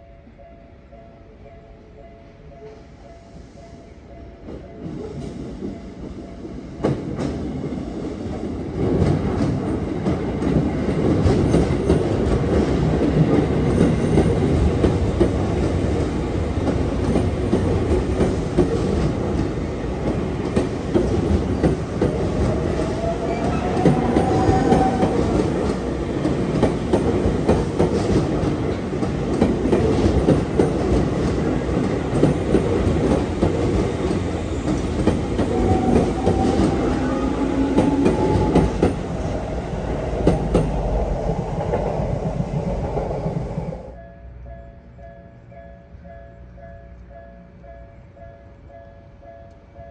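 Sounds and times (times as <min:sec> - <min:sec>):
electric train passing: 0:00.0 - 0:49.9.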